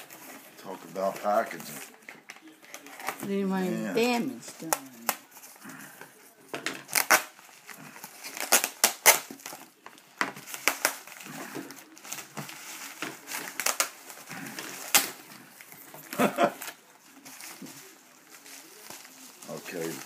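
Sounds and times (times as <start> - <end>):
cardboard crinkling and crackling: 0.0 - 20.0.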